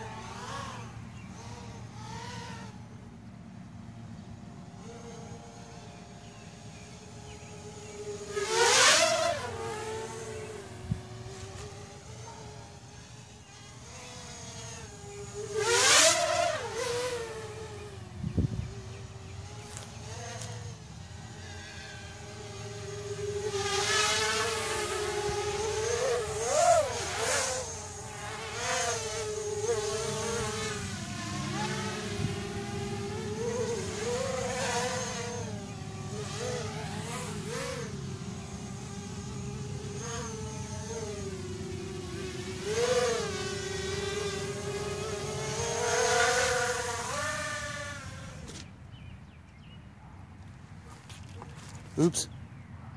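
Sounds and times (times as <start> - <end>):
drone propellers buzzing: 0.0 - 49.1.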